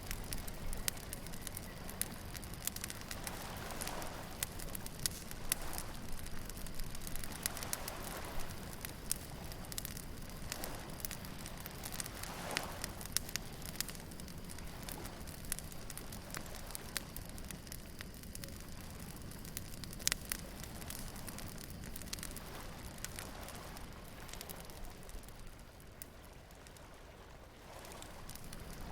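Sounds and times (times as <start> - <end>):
waves washing: 0.0 - 17.3, 22.1 - 28.9
steady low rumble: 0.0 - 26.0
bonfire crackling and popping: 0.0 - 28.9.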